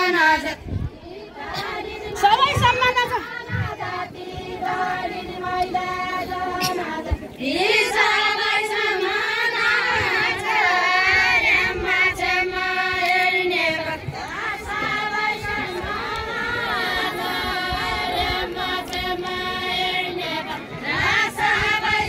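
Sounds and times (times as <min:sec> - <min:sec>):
women singing unaccompanied: 0:00.0 - 0:22.0.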